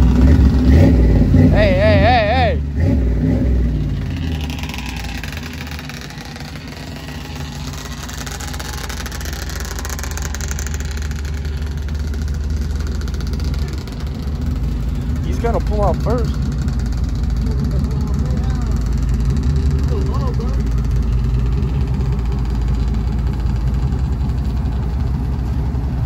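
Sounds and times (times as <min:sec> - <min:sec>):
pickup truck engine idling: 0:00.0 - 0:26.0.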